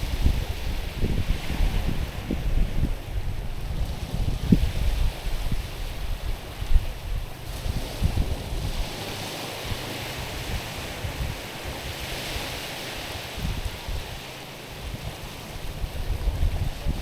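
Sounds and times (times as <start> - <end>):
waves washing on rocky shore: 0.0 - 17.0
wind buffeting microphone: 0.0 - 17.0.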